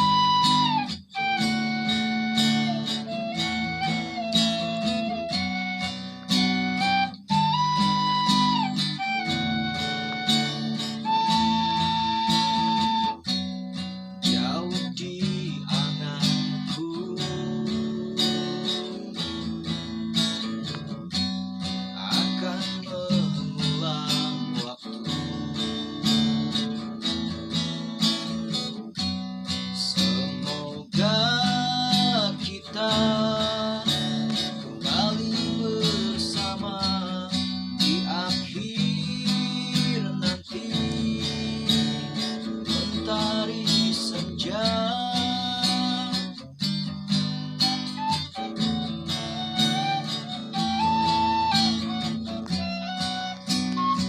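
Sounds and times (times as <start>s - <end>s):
acoustic guitar chords: 0.0s - 54.0s
guitar melody line: 0.0s - 54.0s.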